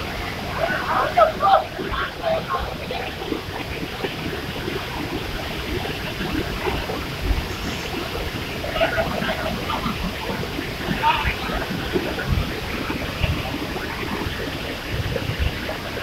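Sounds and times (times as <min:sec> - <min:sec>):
waterfall rushing into pool: 0:00.0 - 0:16.0.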